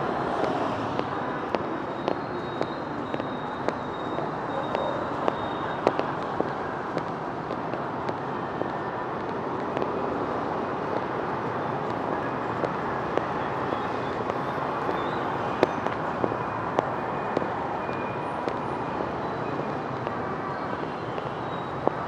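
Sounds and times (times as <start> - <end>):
hum of passing vehicles: 0.0 - 22.0.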